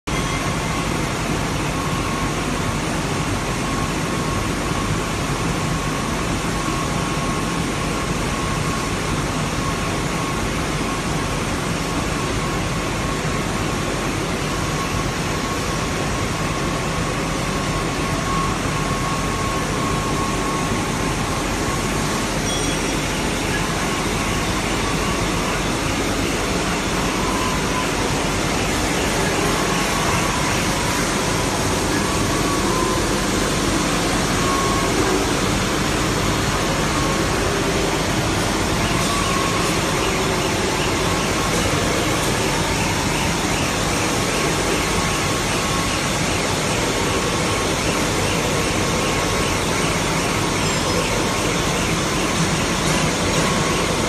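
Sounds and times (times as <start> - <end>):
faint steady whine: 0.0 - 54.0
glass washing machine running: 0.0 - 54.0.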